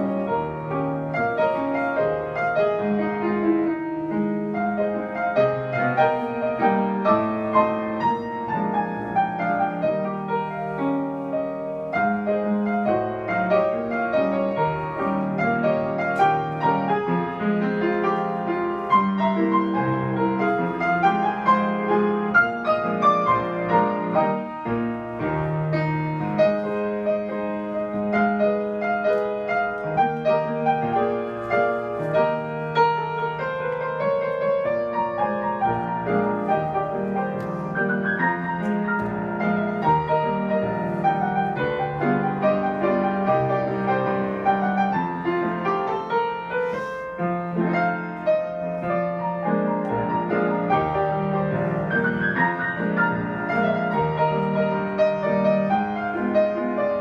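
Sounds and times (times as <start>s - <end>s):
ragtime piano: 0.0s - 57.0s.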